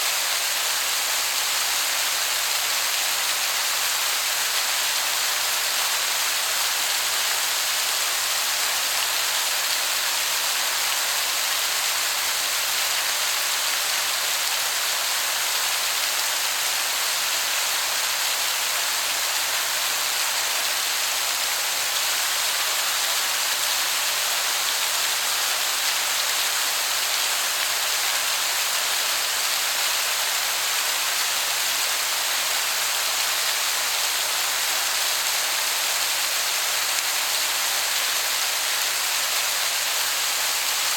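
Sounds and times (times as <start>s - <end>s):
waterfall hiss: 0.0s - 40.9s.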